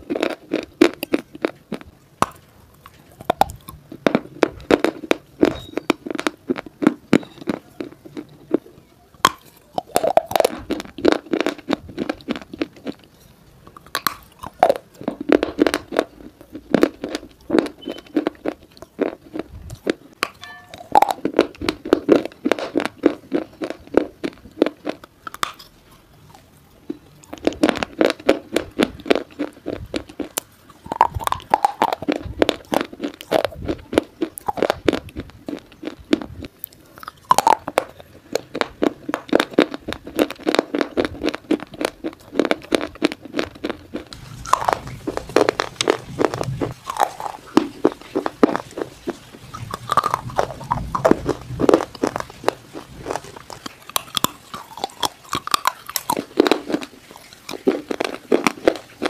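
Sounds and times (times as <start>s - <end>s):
crunching chewing of stone: 0.0s - 59.0s.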